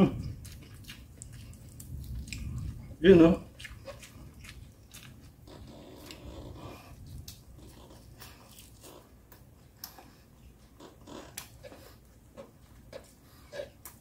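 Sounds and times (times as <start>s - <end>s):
person chewing crispy food: 0.0s - 14.0s
lip smacks: 0.2s - 2.9s, 3.5s - 14.0s.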